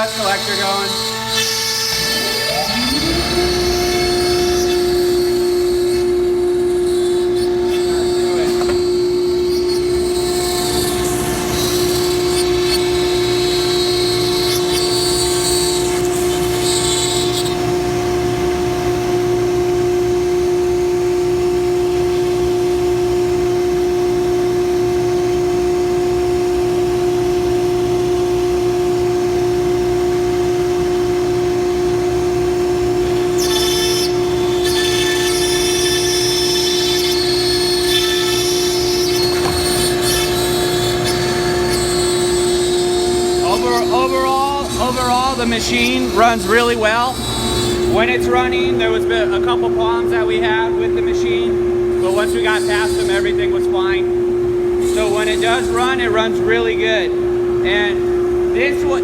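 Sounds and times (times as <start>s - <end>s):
hissing wood cutting noise: 0.0s - 59.0s
router machine steady whine: 0.0s - 59.0s.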